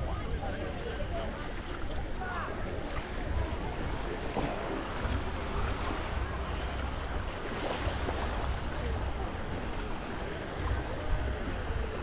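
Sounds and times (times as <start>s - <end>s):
wind rumbling on microphone: 0.0s - 12.0s
waves washing onto beach: 0.7s - 12.0s.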